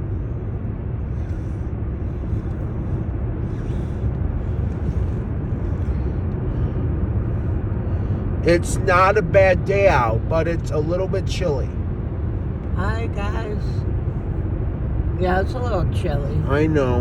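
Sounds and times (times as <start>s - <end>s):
car tyres and engine rumble: 0.0s - 17.0s.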